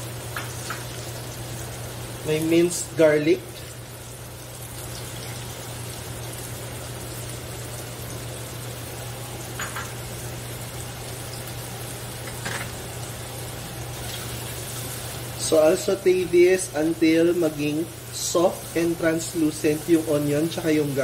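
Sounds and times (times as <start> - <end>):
low steady hum: 0.0 - 21.0
onion sizzling in a pan: 0.0 - 21.0.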